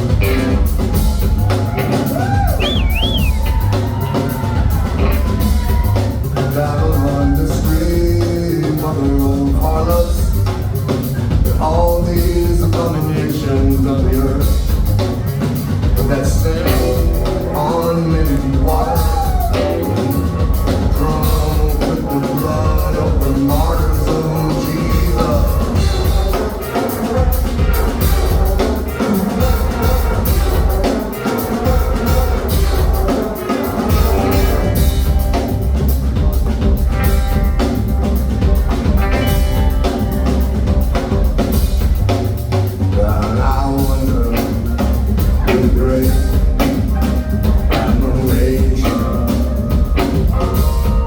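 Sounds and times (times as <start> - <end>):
drum kit: 0.0 - 51.0
heavy bass: 0.0 - 51.0
live rock band playing: 0.0 - 51.0.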